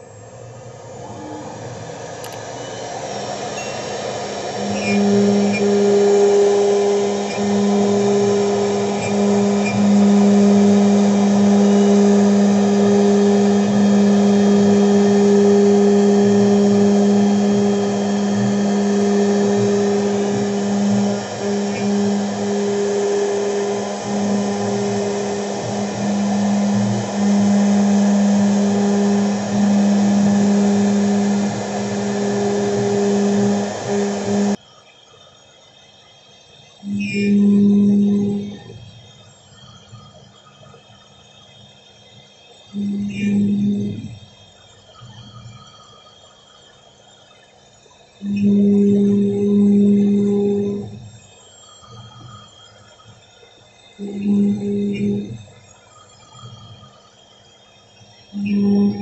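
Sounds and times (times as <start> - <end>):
router spindle motor whine: 0.0 - 59.0.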